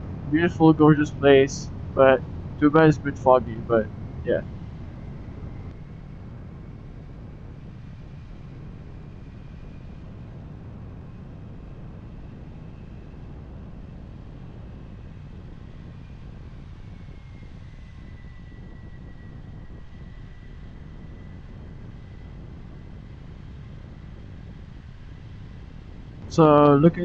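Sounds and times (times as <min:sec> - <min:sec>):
faint thin whine: 0:00.0 - 0:27.0.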